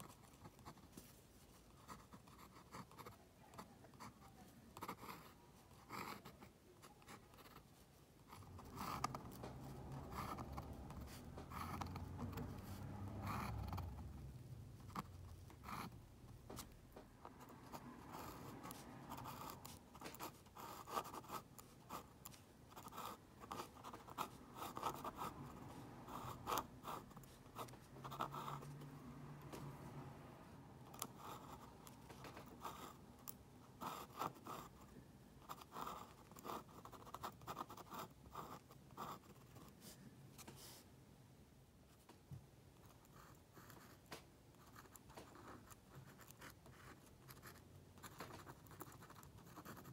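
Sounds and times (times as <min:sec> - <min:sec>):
pen nib scratching on paper: 0:00.0 - 0:29.9, 0:30.7 - 0:40.8, 0:42.8 - 0:49.9.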